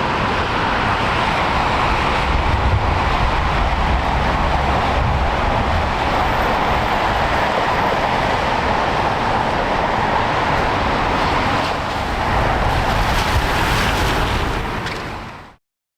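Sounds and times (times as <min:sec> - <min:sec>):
jet engines at takeoff power: 0:00.0 - 0:15.5.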